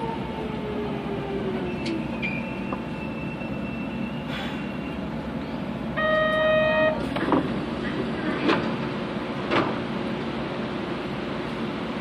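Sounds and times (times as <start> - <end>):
train inverter whine: 0.0 - 12.0
train running noise: 0.0 - 12.0.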